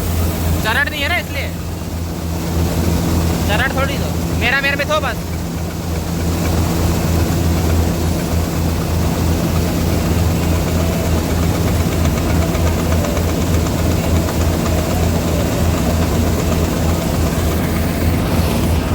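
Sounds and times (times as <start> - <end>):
tractor diesel engine droning: 0.0 - 18.9.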